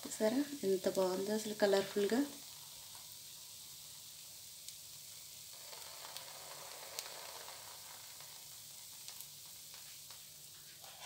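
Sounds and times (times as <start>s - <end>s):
pancake sizzling on hot pan: 0.0s - 11.0s.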